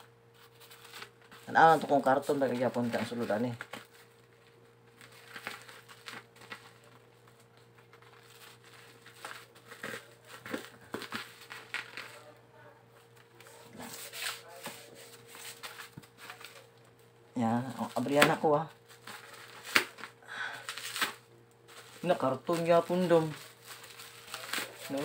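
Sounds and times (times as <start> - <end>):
plastic wrapping crinkling: 0.0 - 12.4, 13.1 - 25.0
steady low hum: 0.0 - 25.0.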